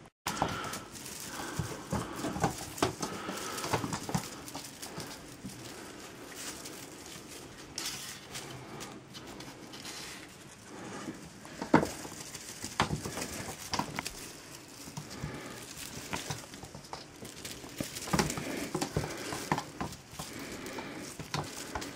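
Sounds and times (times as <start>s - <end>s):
kittens' paws pattering on floor: 0.3s - 21.9s.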